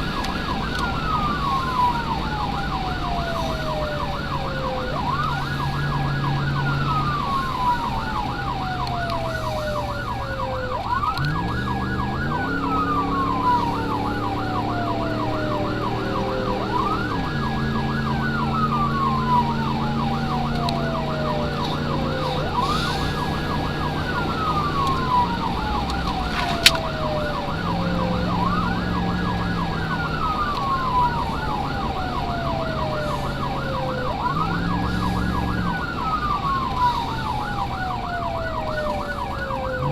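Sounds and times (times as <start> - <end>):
siren wailing: 0.0 - 39.9
siren yelping: 0.0 - 39.9
vehicle engine running: 0.0 - 39.9.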